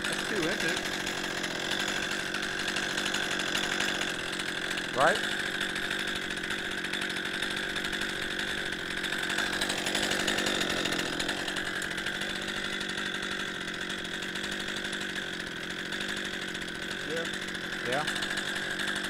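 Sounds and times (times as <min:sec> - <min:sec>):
chainsaw ripping through log: 0:00.0 - 0:19.0.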